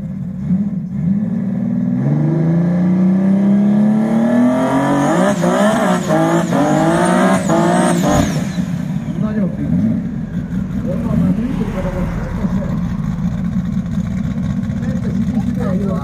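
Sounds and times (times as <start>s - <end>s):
dragster engine revving: 0.0s - 16.0s.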